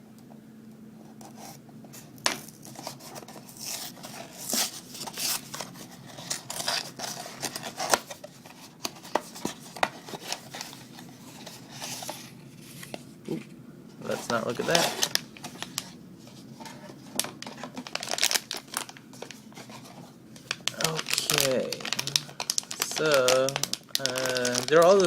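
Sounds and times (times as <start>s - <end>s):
packaging rustling and tearing: 1.4s - 13.4s, 14.0s - 25.0s.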